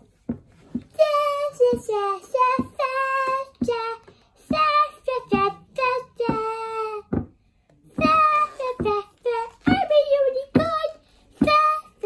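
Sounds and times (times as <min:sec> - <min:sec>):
girl singing wordlessly: 0:00.3 - 0:12.0.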